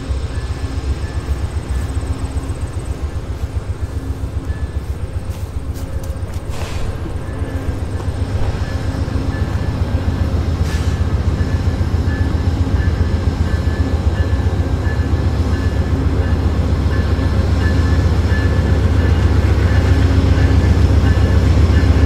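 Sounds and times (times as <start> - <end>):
diesel locomotives rumbling: 0.0 - 22.0.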